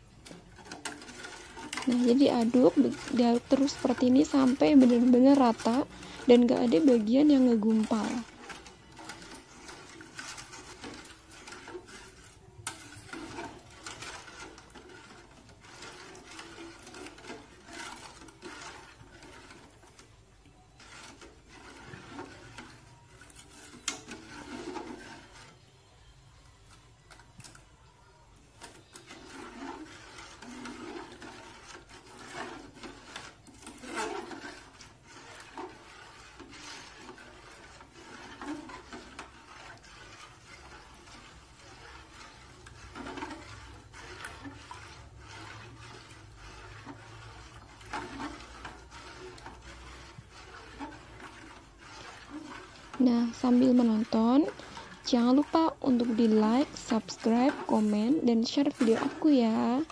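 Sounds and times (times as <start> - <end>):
metal spoon scraping a saucepan: 0.0 - 59.9.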